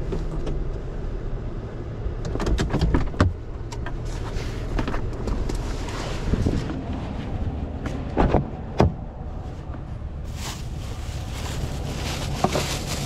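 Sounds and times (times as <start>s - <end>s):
engine rumble in cab: 0.0s - 13.0s.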